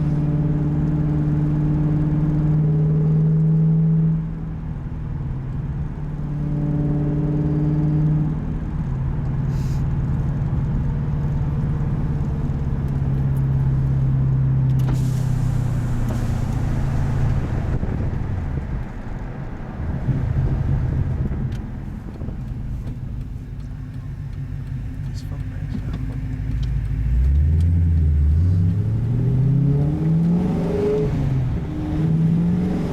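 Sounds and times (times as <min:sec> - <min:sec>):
car exhaust drone while driving: 0:00.0 - 0:32.9.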